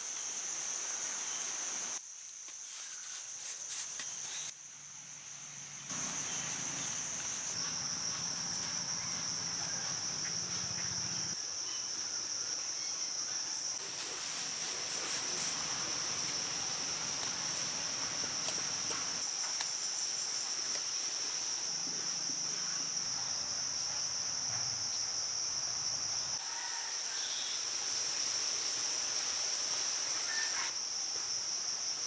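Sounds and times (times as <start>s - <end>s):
crickets trilling: 0.0s - 32.0s
higher insect tone: 0.0s - 32.0s.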